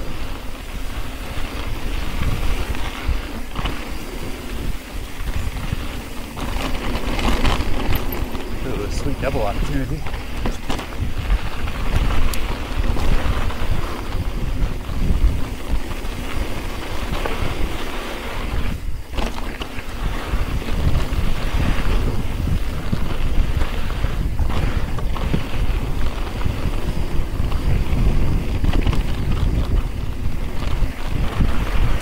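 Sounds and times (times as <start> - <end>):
bike rattling and knocking: 0.0 - 17.8, 18.7 - 32.0
tyre noise on dirt: 0.0 - 32.0
wind on microphone: 0.0 - 32.0.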